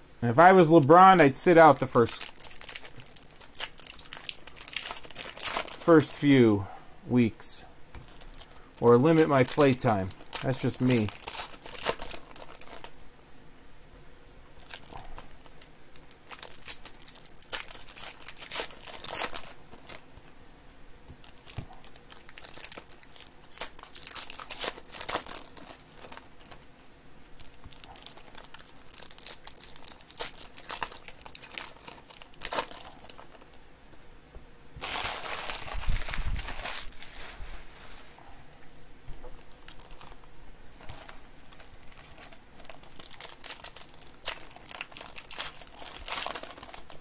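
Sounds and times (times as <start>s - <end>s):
foil wrappers crinkling and tearing: 1.0s - 7.3s, 8.0s - 13.0s, 14.6s - 20.2s, 21.2s - 26.7s, 27.4s - 33.6s, 34.8s - 38.2s, 39.3s - 47.0s.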